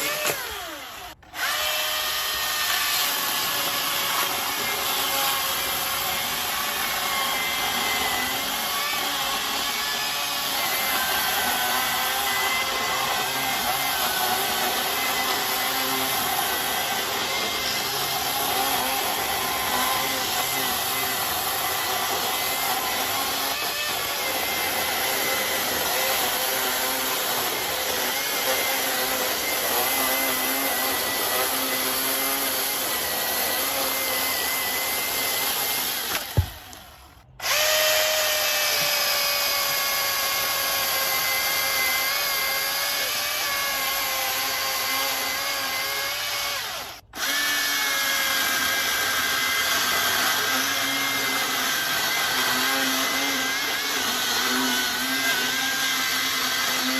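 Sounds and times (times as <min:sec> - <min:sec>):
battery chainsaw cutting branch: 0:00.0 - 0:56.9.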